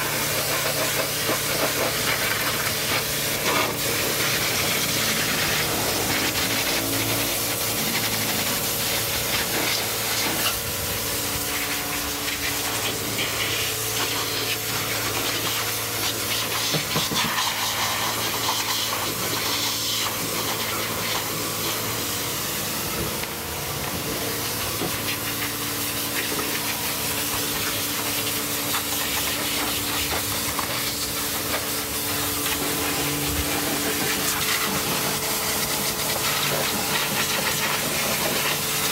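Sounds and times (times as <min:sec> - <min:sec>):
pressure washer spraying water: 0:00.0 - 0:38.9.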